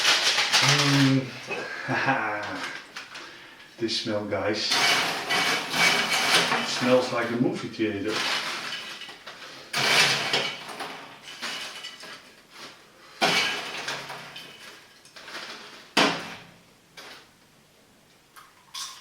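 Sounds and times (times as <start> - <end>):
kitchen items knocking and rattling: 0.0 - 3.3, 4.6 - 17.2.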